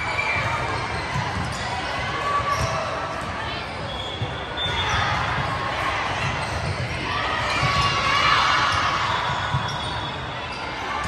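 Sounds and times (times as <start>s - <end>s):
echoing crowd voices: 0.0s - 11.0s.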